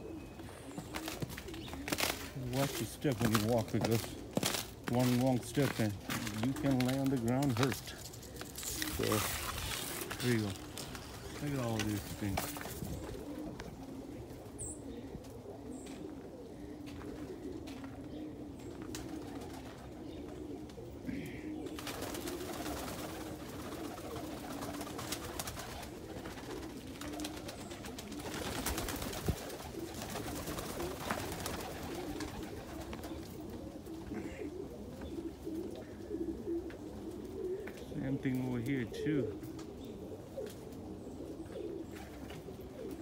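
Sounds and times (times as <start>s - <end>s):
pigeons cooing: 0.0s - 43.0s
wings flapping and rustling: 0.4s - 14.6s, 18.6s - 21.0s, 21.6s - 38.5s, 39.3s - 43.0s.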